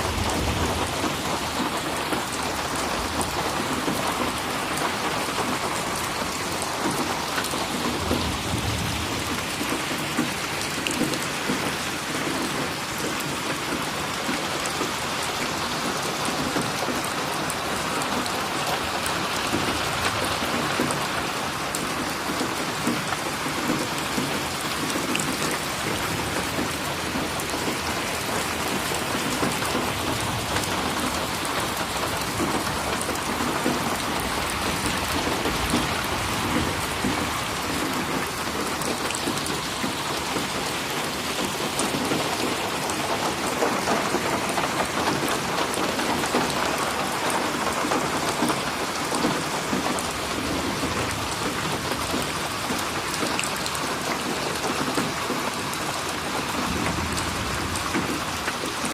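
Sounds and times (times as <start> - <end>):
rain splashing on a surface: 0.0 - 58.9.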